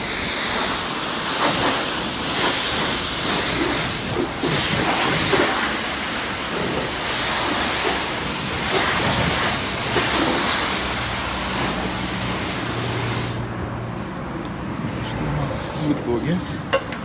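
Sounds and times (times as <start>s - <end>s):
high-pressure water spray hissing: 0.0s - 13.5s, 15.4s - 17.0s.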